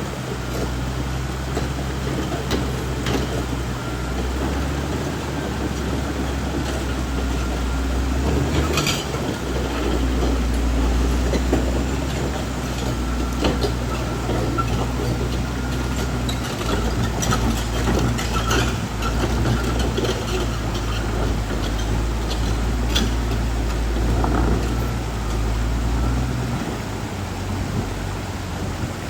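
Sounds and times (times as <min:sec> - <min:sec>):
bulldozer diesel engine droning: 0:00.0 - 0:29.0
steel tracks clanking: 0:00.0 - 0:29.0.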